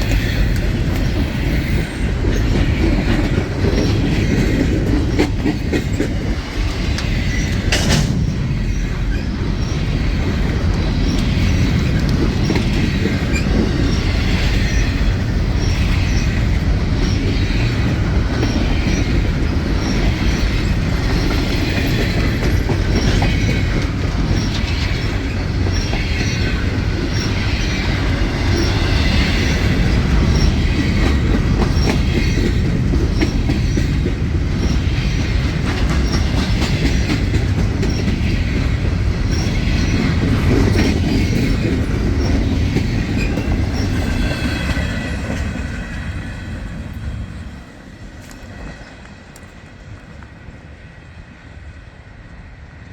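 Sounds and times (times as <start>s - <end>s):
wheels clacking over rail joints: 0.0s - 50.4s
freight train rumbling: 0.0s - 52.9s.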